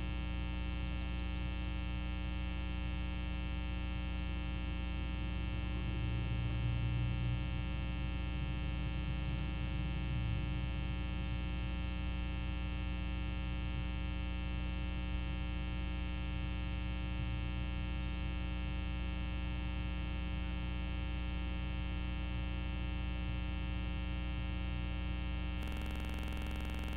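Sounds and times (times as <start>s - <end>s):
electrical hum and buzz: 0.0s - 26.9s.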